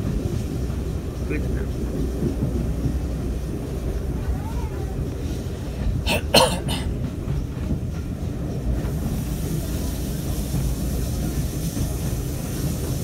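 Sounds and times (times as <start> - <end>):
railway carriage rumble: 0.0 - 13.0.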